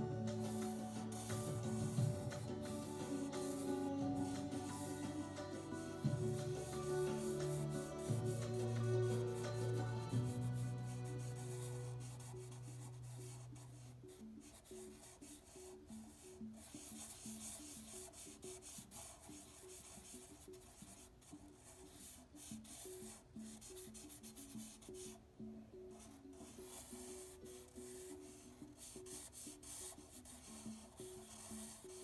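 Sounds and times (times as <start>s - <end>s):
marker scratching on paper: 0.0s - 25.2s, 25.9s - 32.0s
soft background music: 0.0s - 32.0s.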